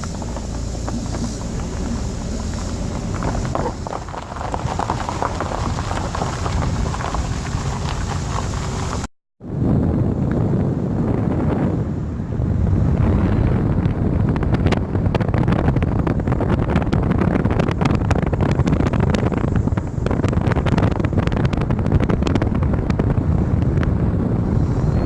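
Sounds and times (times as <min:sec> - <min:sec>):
low road rumble: 0:00.0 - 0:25.0
wind buffeting microphone: 0:00.0 - 0:25.0.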